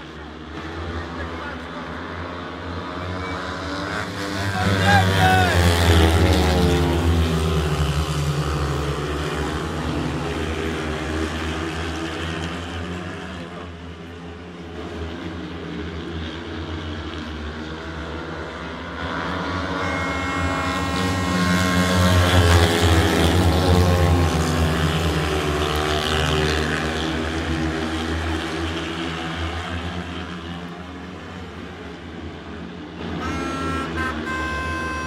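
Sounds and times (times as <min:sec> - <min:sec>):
motorcycles racing: 0:00.0 - 0:35.0.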